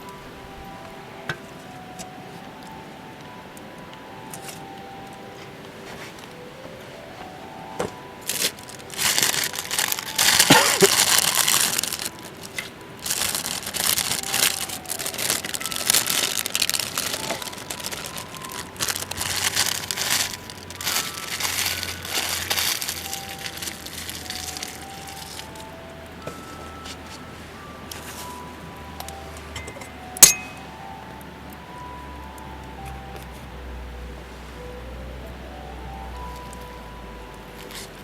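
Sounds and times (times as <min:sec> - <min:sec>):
crinkling and crumpling rustles: 0:00.0 - 0:31.0, 0:36.1 - 0:38.0.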